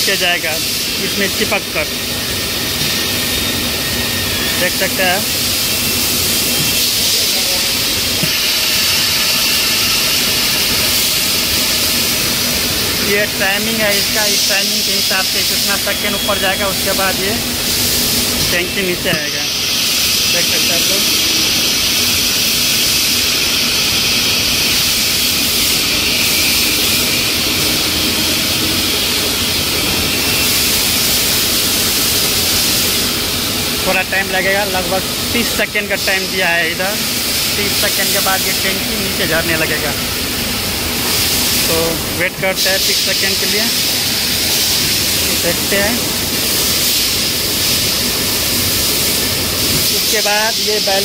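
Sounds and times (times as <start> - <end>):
machine hissing over rumble: 0.0 - 51.0.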